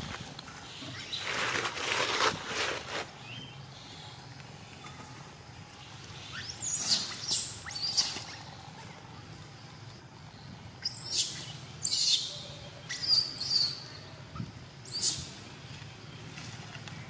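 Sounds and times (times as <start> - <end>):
steady low background noise: 0.0 - 17.0.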